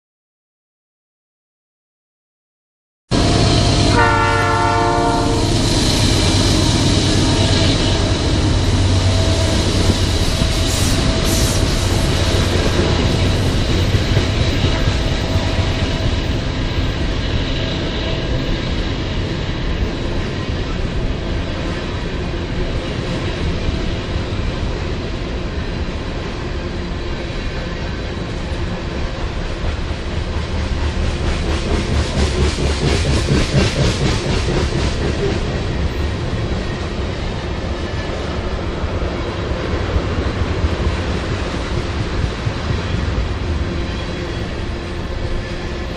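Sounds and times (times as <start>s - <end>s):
train wheels rumbling on rail: 3.1s - 45.9s
clickety-clack over rail joints: 6.5s - 45.9s.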